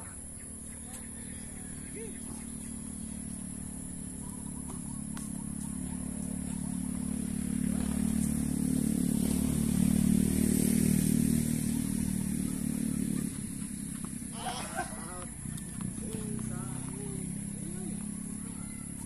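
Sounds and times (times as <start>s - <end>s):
motor vehicle engine running: 0.0s - 19.0s.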